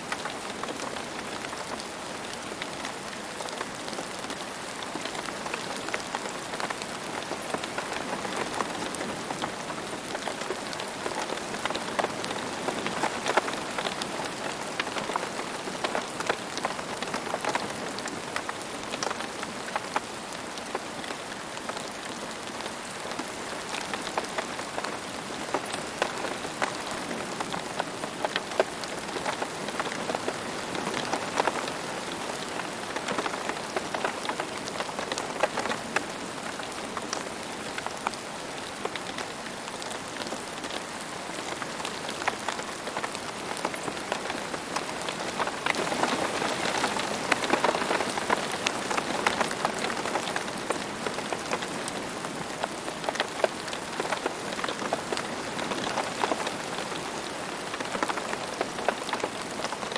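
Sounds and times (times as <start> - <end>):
rain on a hard surface: 0.0 - 59.9.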